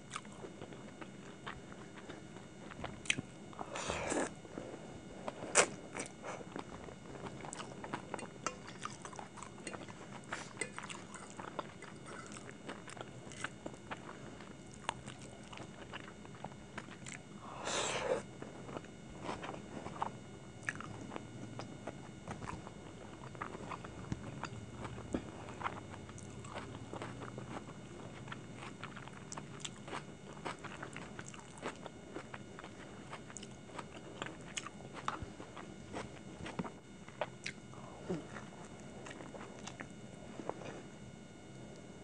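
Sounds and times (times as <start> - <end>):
close chewing: 5.2 - 17.3, 18.5 - 40.7.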